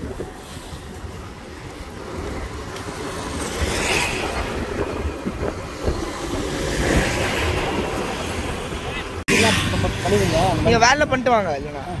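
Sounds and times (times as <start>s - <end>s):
road traffic passing: 0.0s - 12.0s
wind buffeting microphone: 0.0s - 12.0s.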